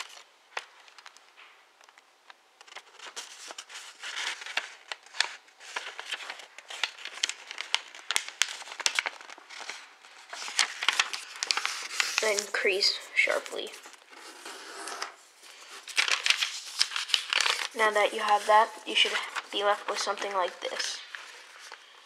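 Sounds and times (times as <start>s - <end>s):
paper rustling and crinkling: 0.0s - 22.0s.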